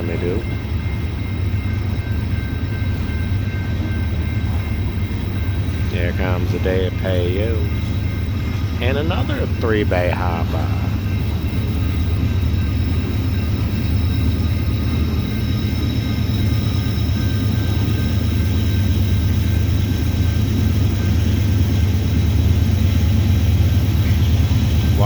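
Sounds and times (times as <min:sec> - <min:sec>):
diesel locomotives working: 0:00.0 - 0:25.0
freight train rumbling past: 0:00.0 - 0:25.0.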